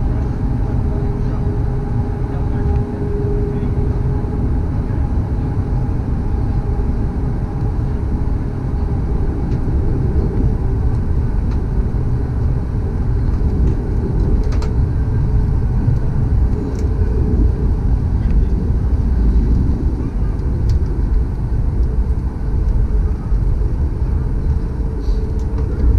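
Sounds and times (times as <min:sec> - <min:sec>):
jet engines idling low rumble: 0:00.0 - 0:25.9.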